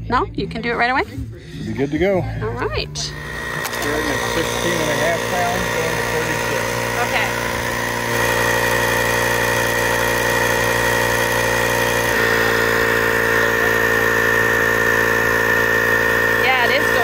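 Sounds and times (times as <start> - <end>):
tyre inflator whining: 2.4 - 17.0.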